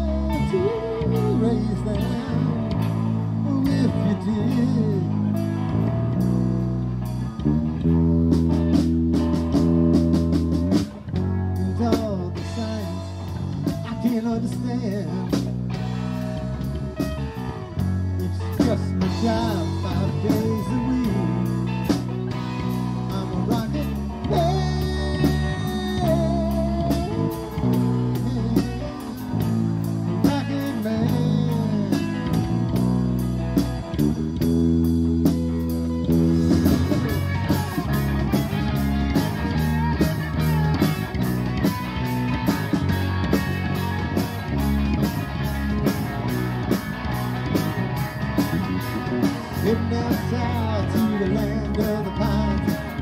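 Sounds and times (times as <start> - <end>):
blues-rock band playing: 0.0 - 53.0
lead guitar bending notes: 0.0 - 53.0.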